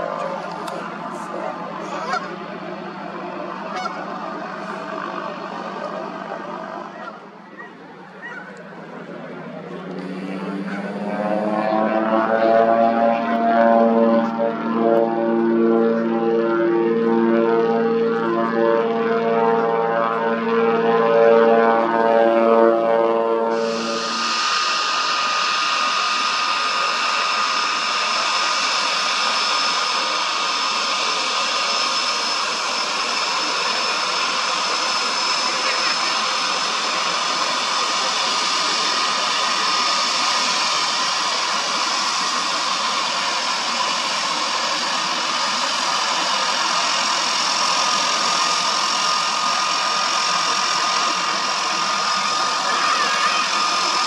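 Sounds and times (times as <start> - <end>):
turboprop engine running: 0.0 - 54.0.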